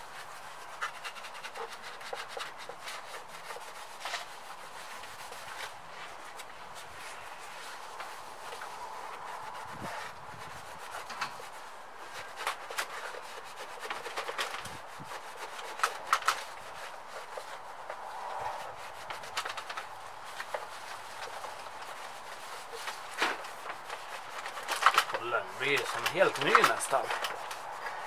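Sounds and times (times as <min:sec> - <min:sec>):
rag wiping metal tank: 0:00.0 - 0:28.0
small scrapes and knocks: 0:00.0 - 0:28.0.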